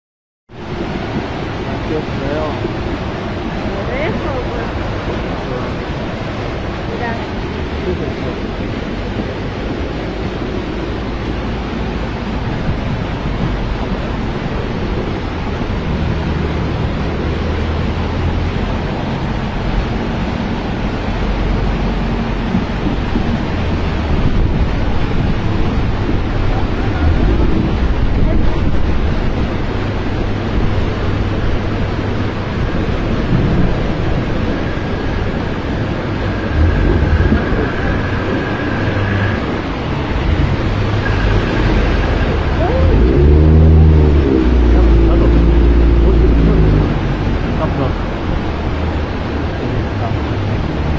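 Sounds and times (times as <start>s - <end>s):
floodwater rushing with low rumble: 0.5s - 50.9s.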